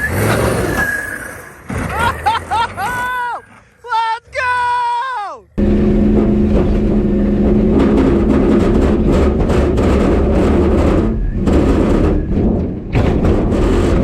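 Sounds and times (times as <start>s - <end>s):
truck engine at full throttle: 0.0s - 2.8s, 5.6s - 14.0s.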